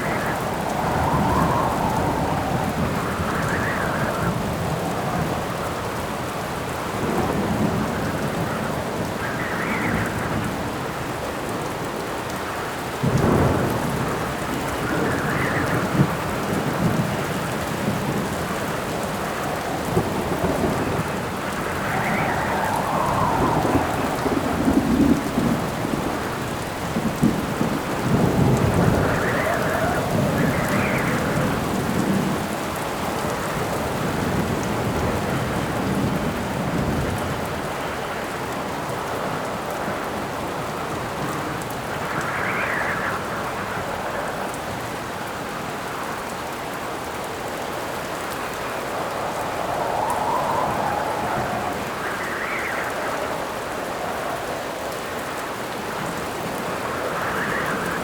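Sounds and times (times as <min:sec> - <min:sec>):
thunder rumbling: 0:00.0 - 0:11.6, 0:13.0 - 0:45.4, 0:46.9 - 0:58.0
heavy rain: 0:00.0 - 0:58.0
wind gusts: 0:00.0 - 0:58.0.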